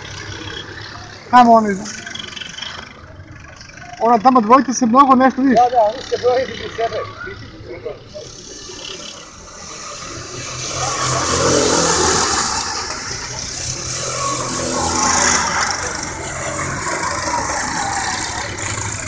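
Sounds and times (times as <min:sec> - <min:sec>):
racing kart engines passing: 0:00.0 - 0:19.0.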